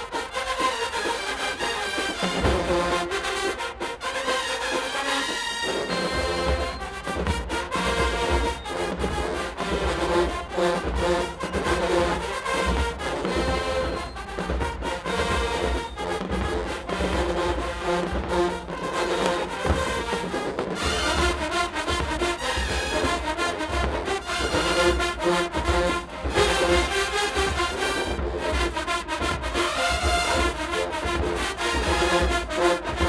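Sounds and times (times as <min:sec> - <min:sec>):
marching band brass and drums: 0:00.0 - 0:33.0.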